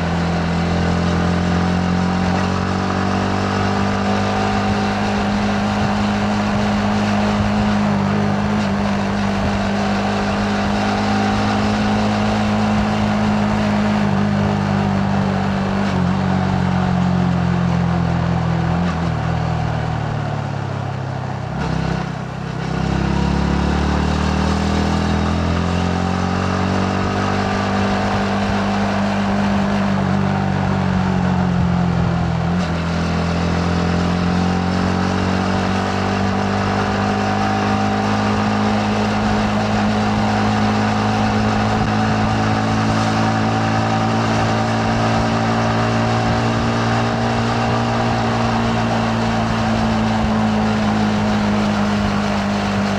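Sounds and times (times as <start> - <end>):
motorcycle engine running: 0.0 - 52.9
wind and road noise: 0.0 - 52.9.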